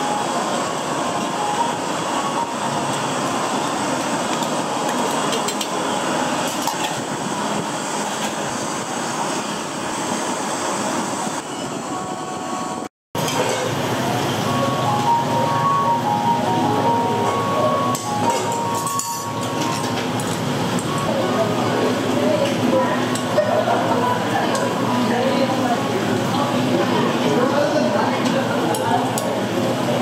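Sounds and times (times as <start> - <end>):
busy street food stall noise: 0.0 - 30.0.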